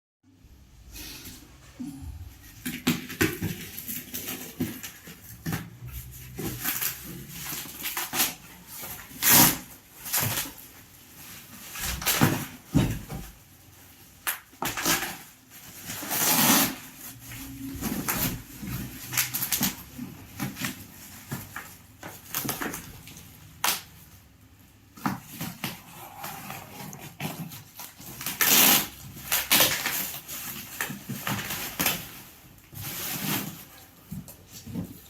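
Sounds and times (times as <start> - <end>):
packaging handling noises: 2.1 - 35.0.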